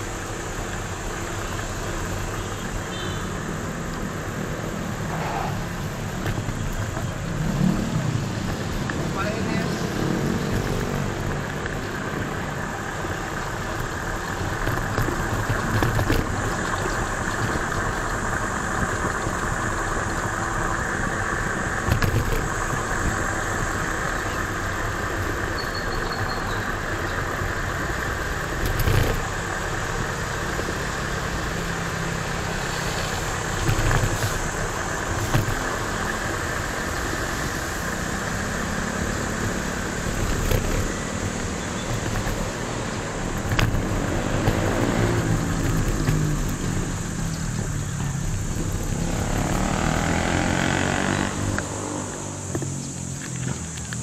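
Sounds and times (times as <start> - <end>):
scooter wheels rolling on road: 0.0 - 54.0
scooter bumps: 4.6 - 54.0.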